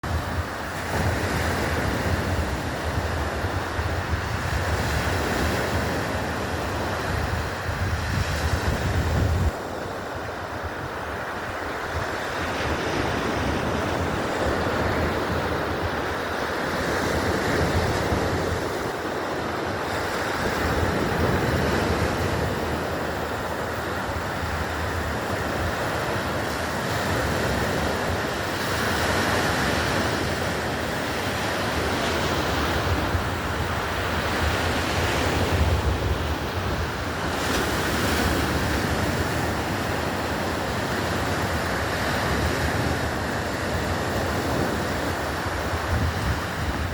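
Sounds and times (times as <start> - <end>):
surf washing onto shore: 0.0 - 46.9
wind rumbling on microphone: 0.0 - 46.9.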